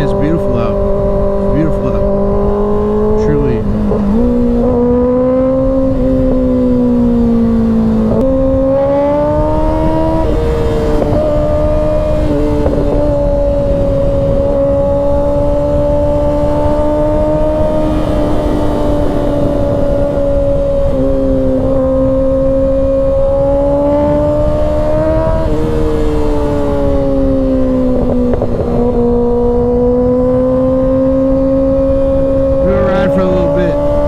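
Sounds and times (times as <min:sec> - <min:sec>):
motorcycle engine cruising: 0:00.0 - 0:34.0
wind rush: 0:00.0 - 0:34.0.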